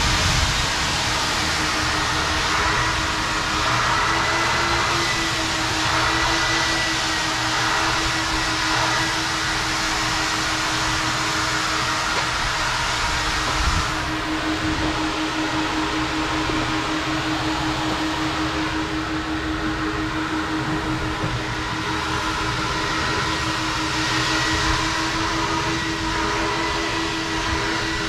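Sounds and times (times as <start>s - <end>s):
car wash rushing noise: 0.0s - 28.0s
low machinery hum: 0.0s - 28.0s.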